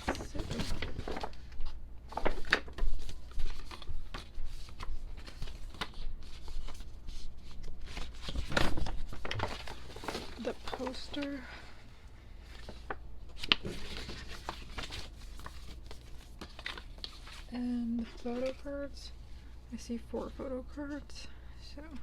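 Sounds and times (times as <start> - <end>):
paper rustling and crinkling: 0.0 - 11.8, 12.4 - 19.1.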